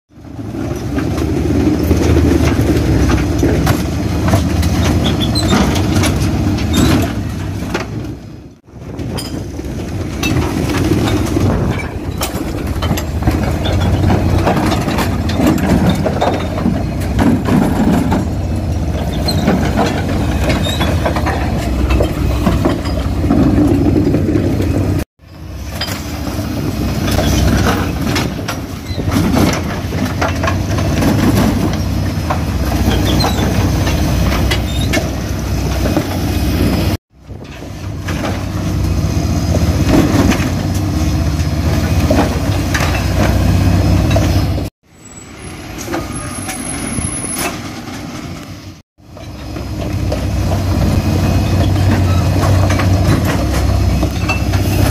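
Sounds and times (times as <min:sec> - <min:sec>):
refuse lorry engine under load: 0:00.2 - 0:54.9
bins and rubbish clanking: 0:00.3 - 0:25.0, 0:25.6 - 0:44.7, 0:45.6 - 0:54.9.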